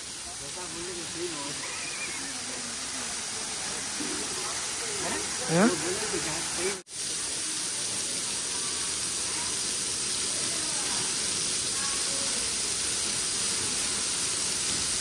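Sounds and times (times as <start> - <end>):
water falling onto rocks: 0.0 - 15.0.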